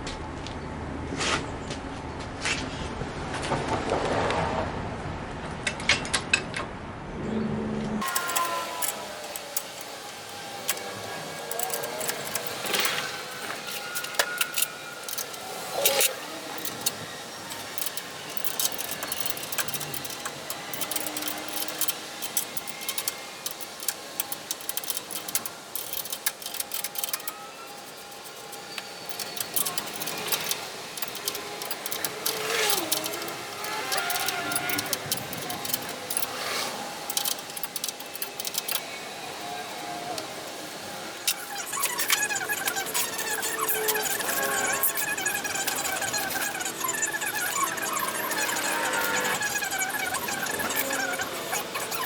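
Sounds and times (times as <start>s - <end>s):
short squeaks: 8.0s - 40.2s, 41.2s - 52.0s
tools and metal parts clinking: 8.0s - 52.0s.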